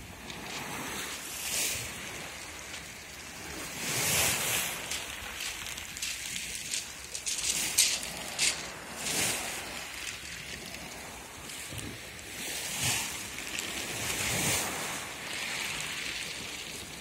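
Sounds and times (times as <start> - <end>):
small waves washing on shore: 0.0 - 17.0
wind on microphone: 0.0 - 17.0.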